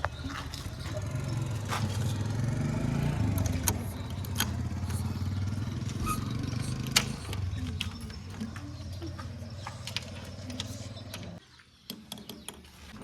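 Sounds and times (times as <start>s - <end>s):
diesel engine running: 0.0s - 11.4s.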